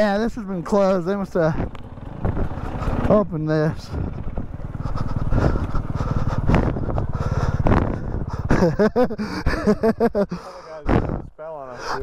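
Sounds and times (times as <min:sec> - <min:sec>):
two-stroke dirt bike engine: 0:00.0 - 0:11.3.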